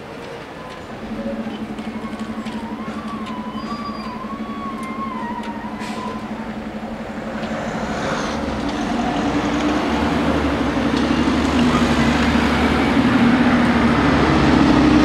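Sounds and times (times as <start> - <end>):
car engines passing: 0.0 - 15.0
steady engine hum: 0.0 - 15.0.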